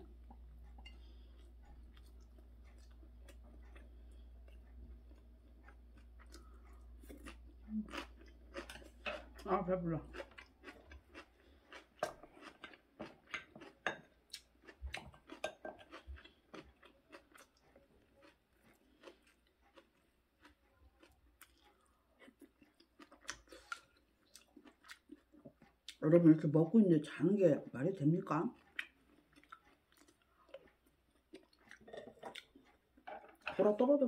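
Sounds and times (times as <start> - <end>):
person chewing food: 0.0 - 26.6, 27.6 - 33.5.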